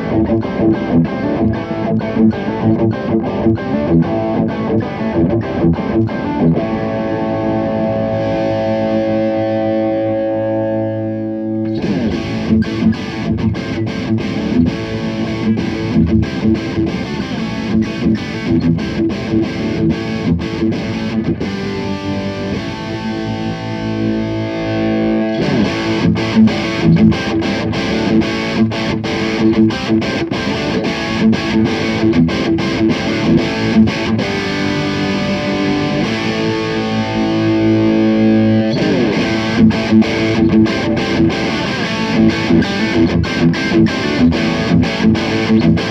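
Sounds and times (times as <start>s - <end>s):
distorted electric guitar: 0.0s - 45.9s.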